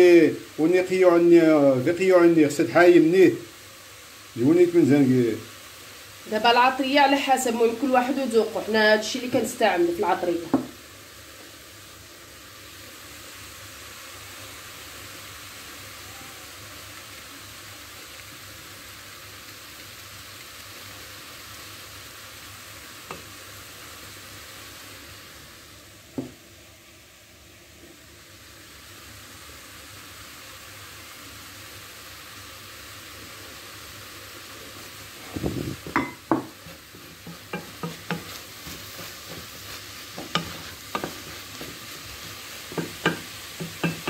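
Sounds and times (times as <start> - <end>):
food sizzling in a pot: 0.0 - 44.0.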